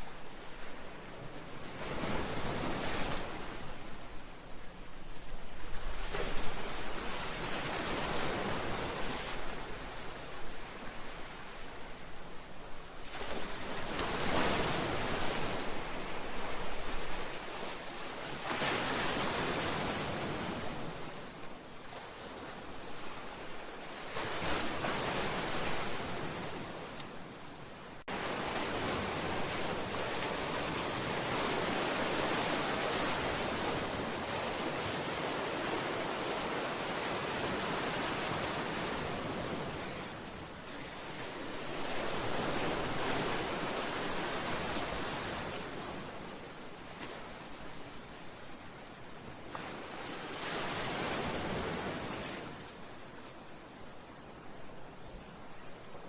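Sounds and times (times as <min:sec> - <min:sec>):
sea waves surging against a seawall: 0:00.0 - 0:27.4, 0:28.0 - 0:53.1.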